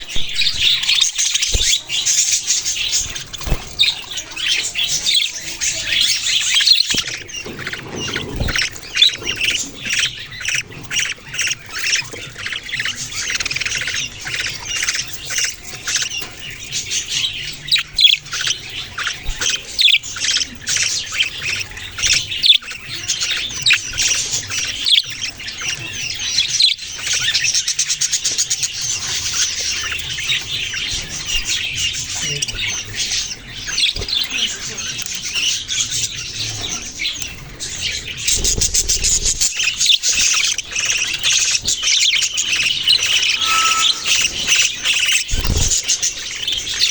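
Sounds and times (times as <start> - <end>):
budgerigars chirping and squawking: 0.0 - 46.9.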